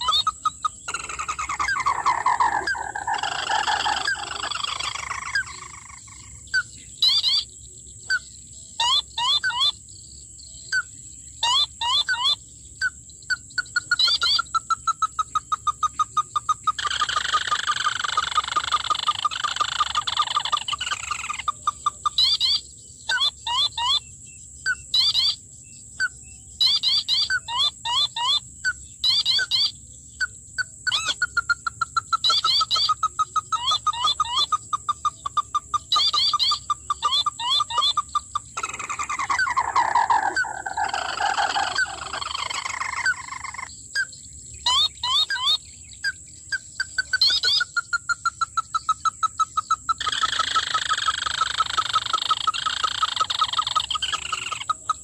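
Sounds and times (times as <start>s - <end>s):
recorded bird call from speaker: 0.0s - 9.9s, 10.5s - 55.0s
constant thin high tone: 0.0s - 55.0s.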